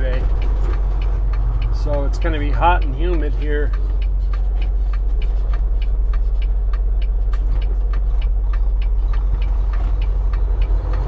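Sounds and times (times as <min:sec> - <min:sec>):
diesel truck engine droning: 0:00.0 - 0:11.0
light ticking: 0:00.0 - 0:11.0.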